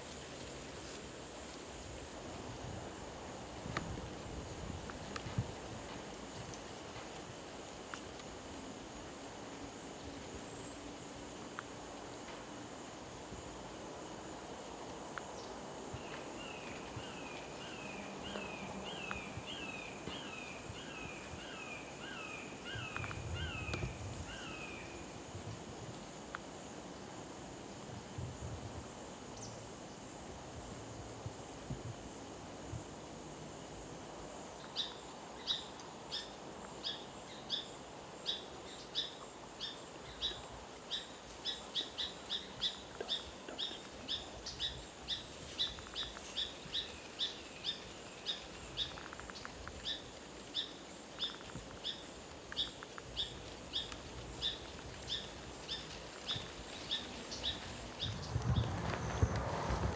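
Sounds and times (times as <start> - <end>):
faint high insect trill: 0.0 - 59.9.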